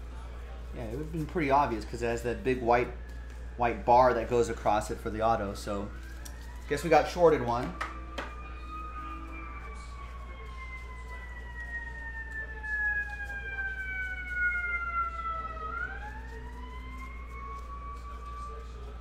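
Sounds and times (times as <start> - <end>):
emergency siren wailing: 0.7 - 19.0.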